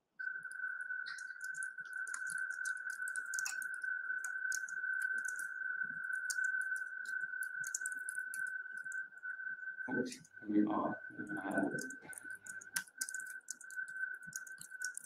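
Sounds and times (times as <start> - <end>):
crackling clicks: 0.2 - 10.4, 11.2 - 15.0.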